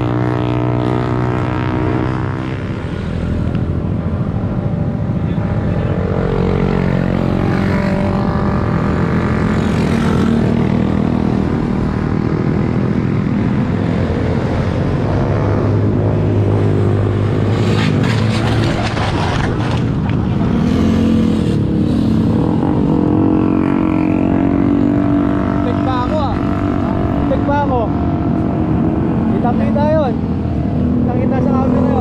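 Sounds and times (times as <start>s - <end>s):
vehicle engines passing: 0.0s - 32.0s.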